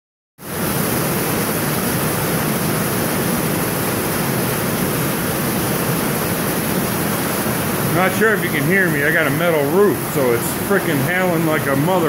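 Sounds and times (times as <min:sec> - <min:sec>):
heavy rain on a metal roof: 0:00.4 - 0:12.0.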